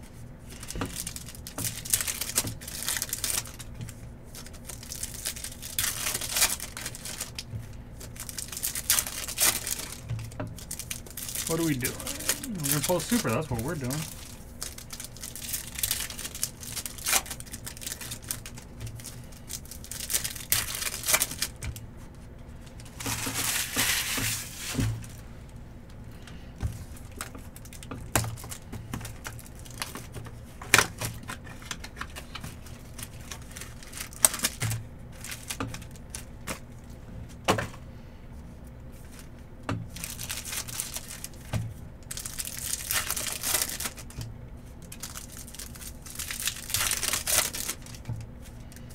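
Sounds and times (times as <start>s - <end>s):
foil wrappers crinkling and tearing: 0.0s - 25.2s, 26.2s - 37.0s, 38.9s - 48.9s.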